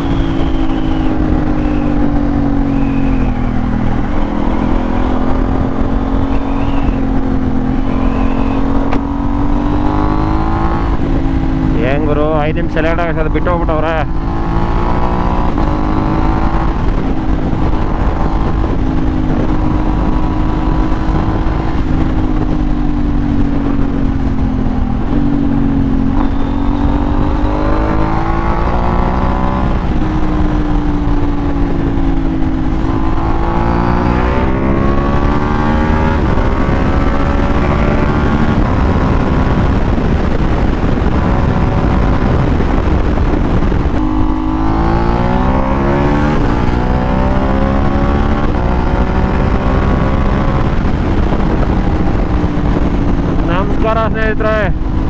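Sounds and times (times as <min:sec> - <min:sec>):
motorcycle engine: 0:00.0 - 0:55.0
wind rush: 0:00.0 - 0:55.0.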